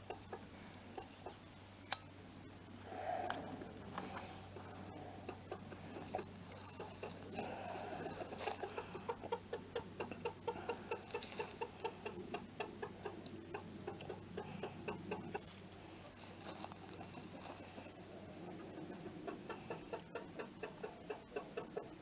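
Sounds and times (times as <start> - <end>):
chickens clucking: 0.0 - 1.6, 3.3 - 22.0
steady low hum: 0.0 - 22.0.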